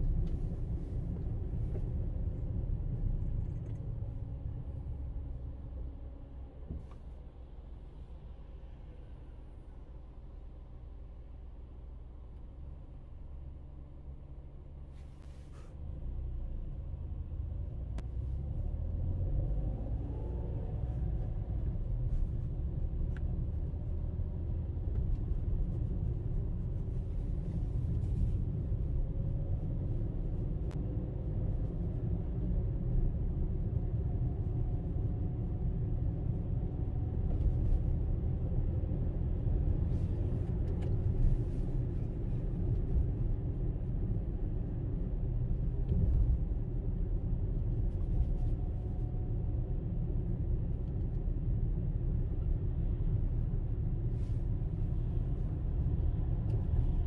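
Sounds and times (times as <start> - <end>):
vehicle driving rumble: 0.0 - 57.0.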